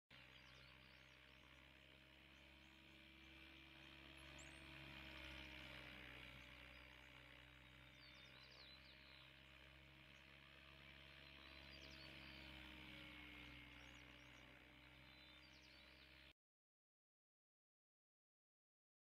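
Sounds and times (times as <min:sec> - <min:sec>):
distant rc helicopter humming: 0:00.1 - 0:16.4.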